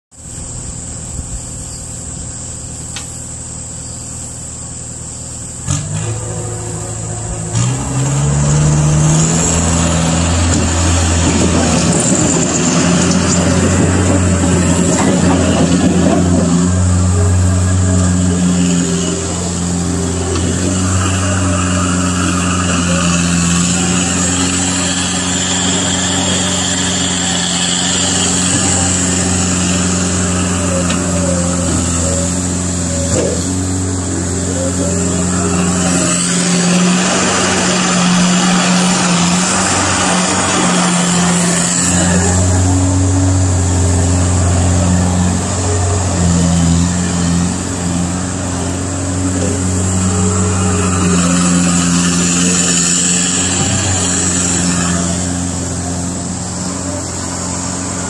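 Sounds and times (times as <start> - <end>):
diesel engine running: 0.1 - 58.0.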